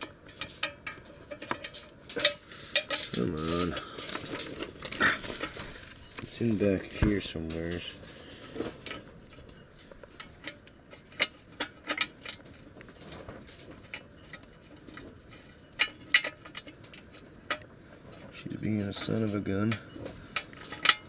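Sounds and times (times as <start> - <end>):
metal tools clicking on engine parts: 0.0 - 21.0.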